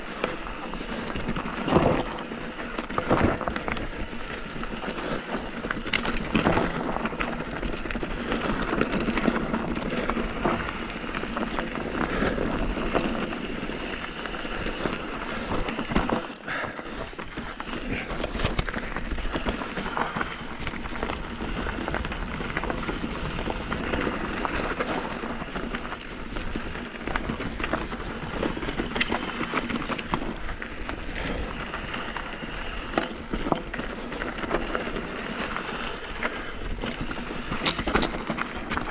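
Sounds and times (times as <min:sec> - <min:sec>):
bike clicks and rattles: 0:00.0 - 0:38.9
bike tyres rolling over stones: 0:00.0 - 0:38.9.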